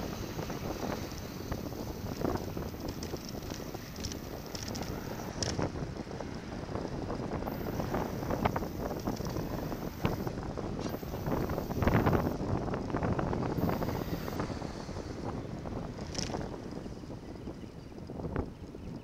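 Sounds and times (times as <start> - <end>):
road rumble: 0.0 - 18.8
wind buffeting microphone: 0.0 - 19.0.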